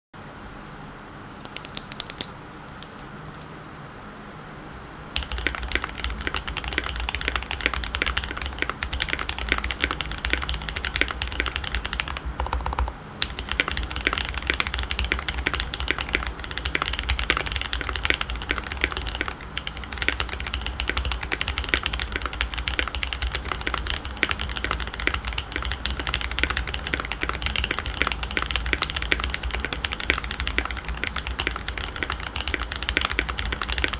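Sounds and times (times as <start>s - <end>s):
mechanical keyboard typing: 1.4s - 2.4s, 5.2s - 33.9s
sharp keyboard clicks: 1.4s - 3.5s, 5.2s - 33.9s.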